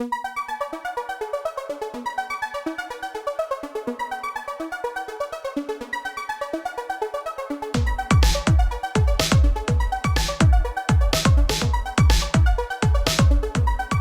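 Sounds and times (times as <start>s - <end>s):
upbeat electronic music: 0.0s - 14.0s.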